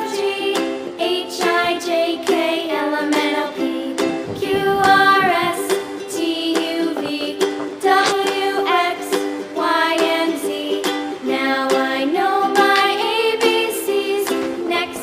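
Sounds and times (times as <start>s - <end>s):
ukulele tune: 0.0s - 15.0s.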